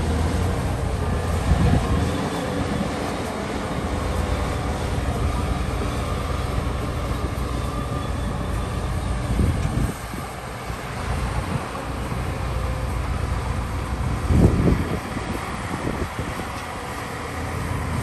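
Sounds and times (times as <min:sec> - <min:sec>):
bulldozer diesel engine rumbling: 0:00.0 - 0:18.0.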